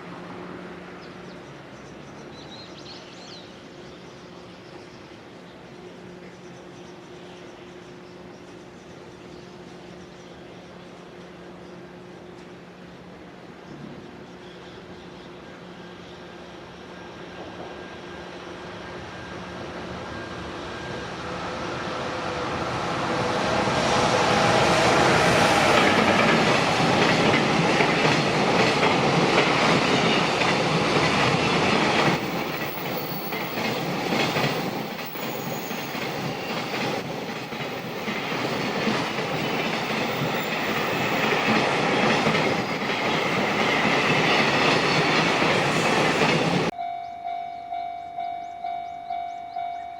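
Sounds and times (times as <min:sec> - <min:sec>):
freight train rumble: 0:00.0 - 0:49.9.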